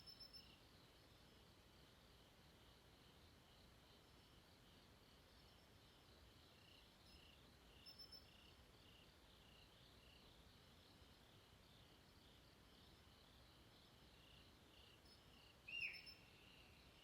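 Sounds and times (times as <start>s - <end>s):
background hiss: 0.0s - 17.0s
crickets chirping: 0.0s - 17.0s.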